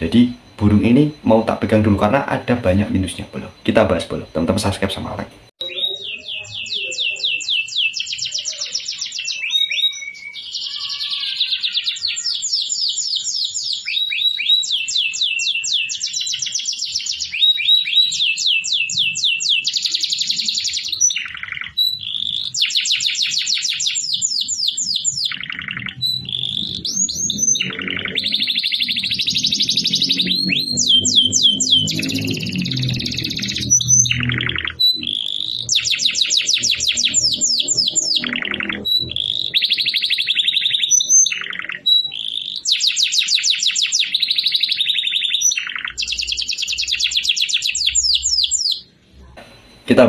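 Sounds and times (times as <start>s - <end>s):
canary singing trills: 0.0s - 50.0s.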